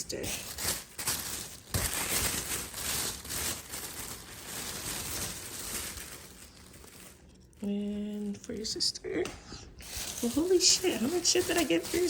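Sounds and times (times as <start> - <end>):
shopping bag rustling: 0.0 - 8.9, 9.8 - 12.0.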